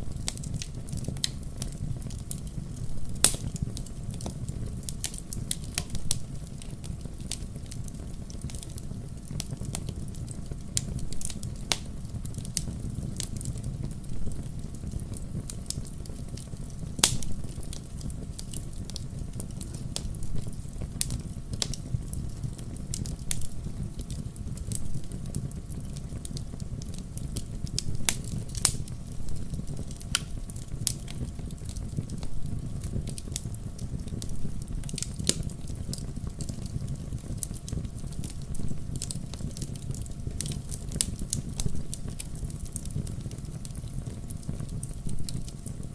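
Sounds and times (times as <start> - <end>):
fire crackling and popping: 0.0 - 45.9
low rumble of flame: 0.0 - 45.9.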